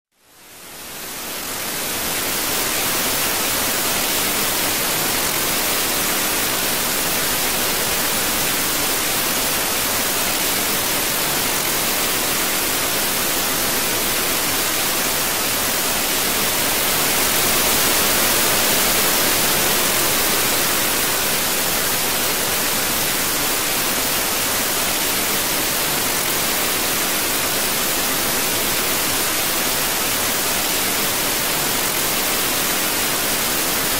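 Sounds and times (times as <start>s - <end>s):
static hiss: 0.2s - 33.9s.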